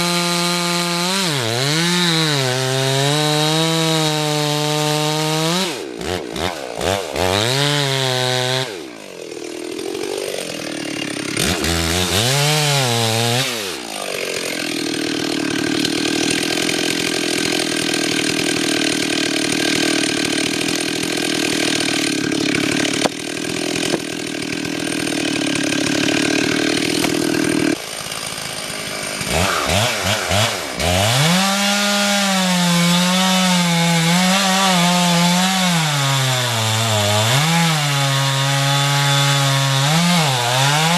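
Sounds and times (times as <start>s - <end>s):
chainsaw revving and cutting: 0.0s - 40.9s.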